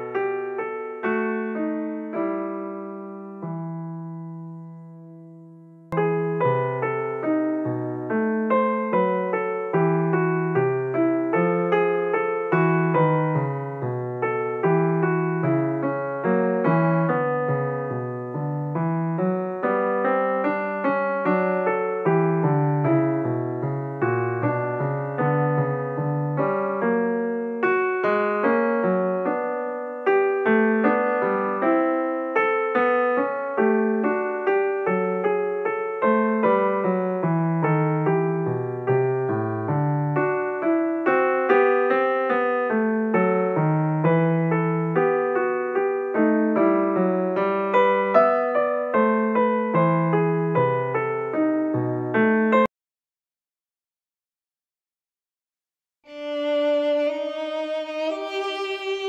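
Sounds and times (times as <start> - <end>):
piano notes and chords: 0.0 - 52.7, 56.1 - 59.0.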